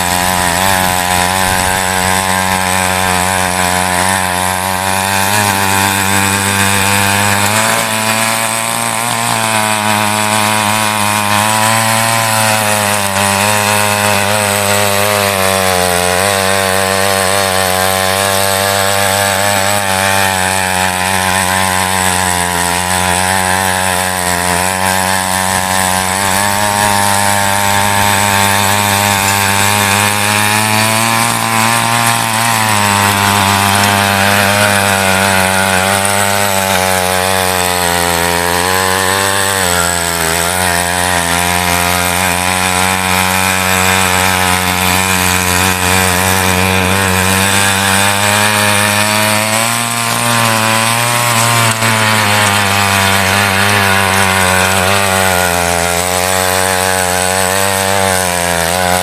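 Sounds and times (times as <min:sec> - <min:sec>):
mini tiller engine under load: 0:00.0 - 0:59.0
tines digging through soil: 0:00.0 - 0:59.0.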